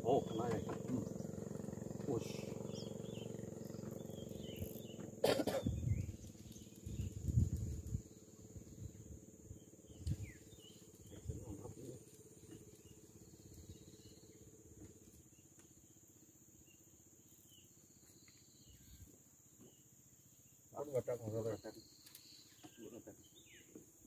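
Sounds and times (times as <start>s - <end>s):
faint bird chirps: 0.0s - 23.9s
insects droning: 0.0s - 24.0s.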